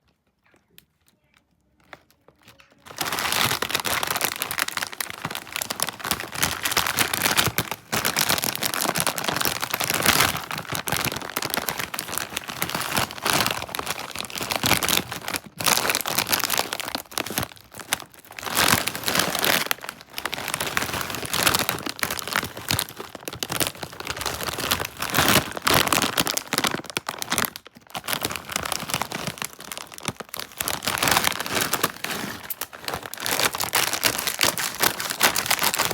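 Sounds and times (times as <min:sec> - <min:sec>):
foil chip bag crinkling: 0:01.1 - 0:35.9.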